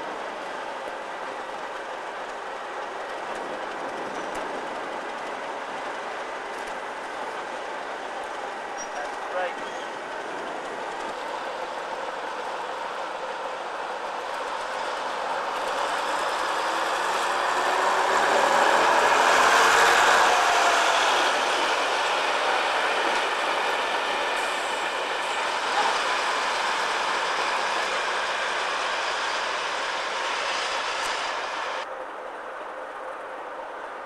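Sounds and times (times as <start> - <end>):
diesel train passing: 0.0 - 34.0.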